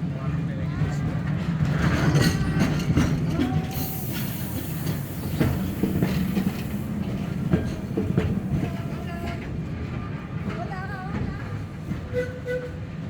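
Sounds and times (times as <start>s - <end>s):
electric tram rumbling on track: 0.0s - 13.0s.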